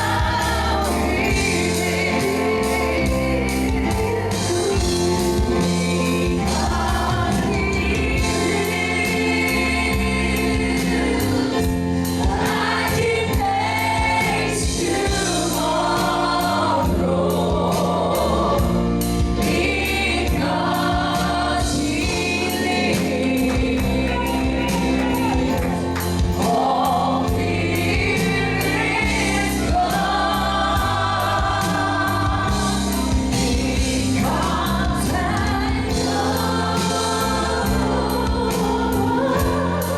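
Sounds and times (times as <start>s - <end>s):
band playing: 0.0s - 39.9s
bass line: 0.0s - 39.9s
choir singing: 0.0s - 39.9s
steady drum beat: 0.0s - 39.9s.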